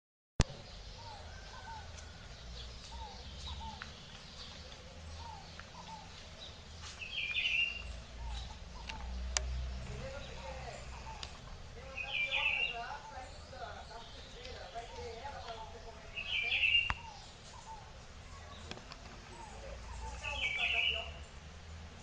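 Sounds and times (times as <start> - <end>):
birds calling: 0.4 - 22.0
low rumble of wind: 0.4 - 22.0.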